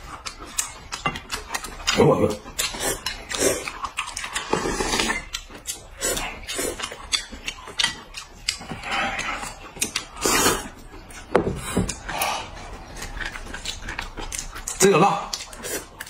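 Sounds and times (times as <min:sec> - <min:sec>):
people chewing and slurping: 0:00.0 - 0:16.0.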